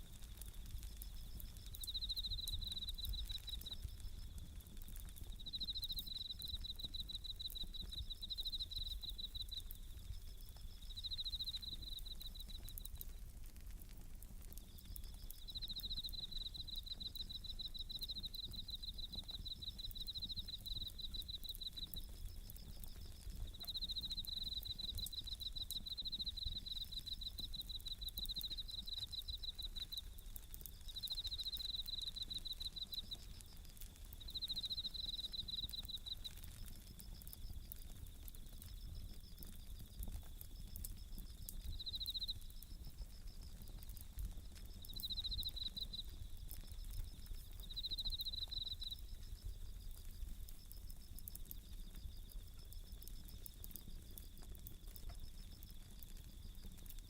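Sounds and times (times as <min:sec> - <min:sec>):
campfire crackling: 0:00.0 - 0:57.0
crickets trilling: 0:00.0 - 0:57.0.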